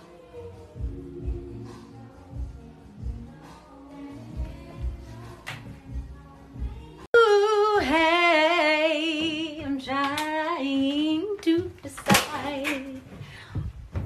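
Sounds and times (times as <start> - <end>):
woman singing a cappella: 0.0 - 13.7.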